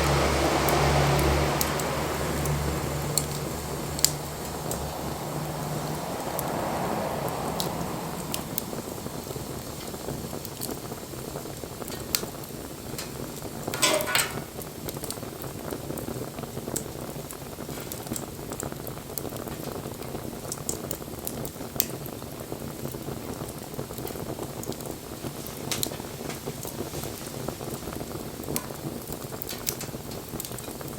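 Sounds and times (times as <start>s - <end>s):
bonfire crackling: 0.0s - 30.9s.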